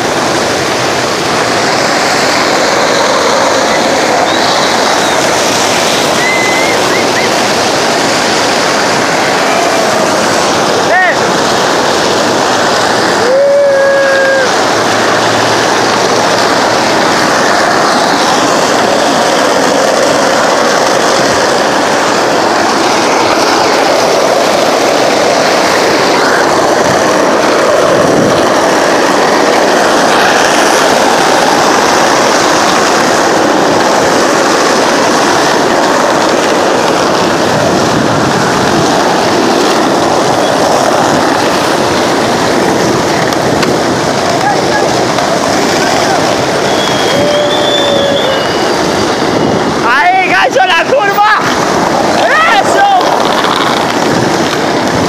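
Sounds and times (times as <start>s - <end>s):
skateboard wheels rolling on asphalt: 0.0s - 55.0s.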